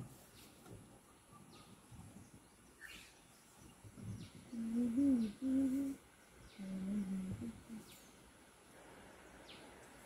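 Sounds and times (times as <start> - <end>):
faint bird chirps: 0.1 - 10.0
steady low hum: 1.8 - 10.0.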